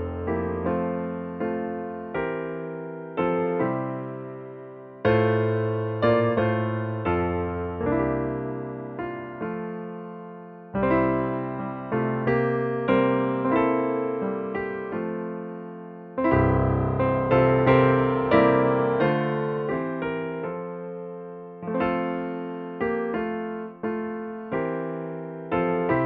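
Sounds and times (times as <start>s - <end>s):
slow solo piano: 0.0s - 26.0s.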